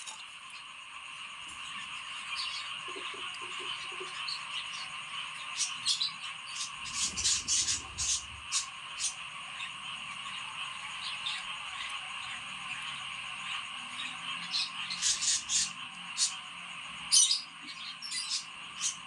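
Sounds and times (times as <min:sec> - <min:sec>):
budgerigar chicks chittering: 0:01.8 - 0:19.0.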